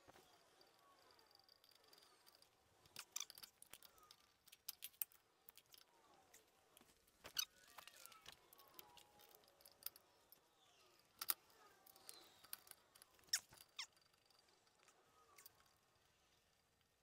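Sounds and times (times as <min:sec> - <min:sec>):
metal clicks and clinks: 0:00.2 - 0:06.5, 0:07.3 - 0:15.8.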